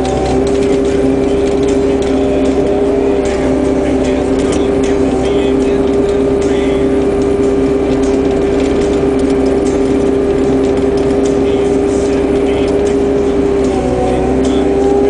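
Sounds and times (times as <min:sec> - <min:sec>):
diesel engine hum with whine: 0:00.0 - 0:15.0.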